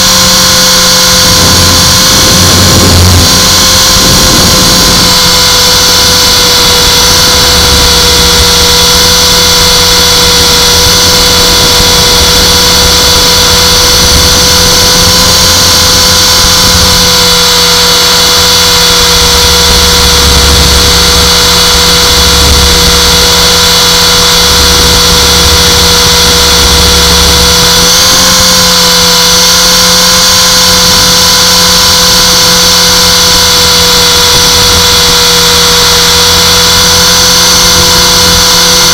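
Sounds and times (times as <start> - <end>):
rc helicopter high-pitched whine: 0.0 - 38.9.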